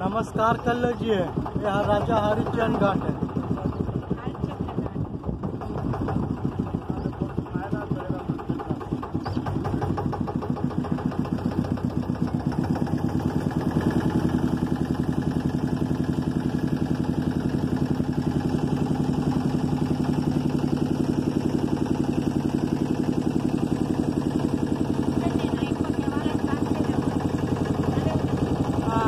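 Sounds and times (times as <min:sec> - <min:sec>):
motor boat engine running: 0:00.0 - 0:29.0.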